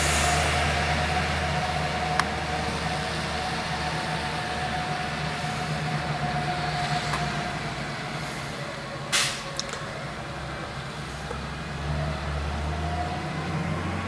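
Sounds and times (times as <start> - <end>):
diesel truck engine rumble: 0.0 - 14.0.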